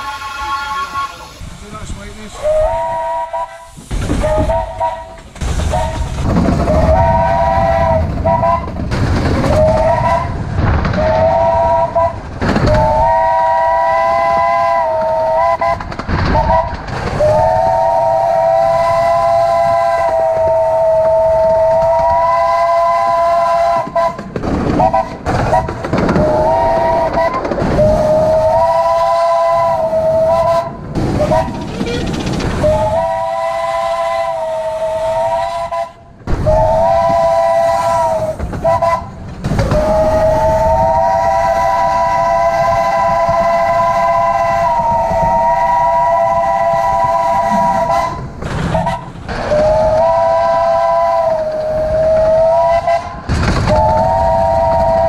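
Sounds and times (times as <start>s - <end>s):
three-note steam whistle: 0.0s - 1.4s, 2.4s - 6.0s, 6.7s - 8.7s, 9.5s - 10.4s, 11.0s - 15.8s, 16.4s - 24.2s, 24.8s - 31.6s, 32.6s - 55.0s
train rumbling along track: 0.0s - 55.0s.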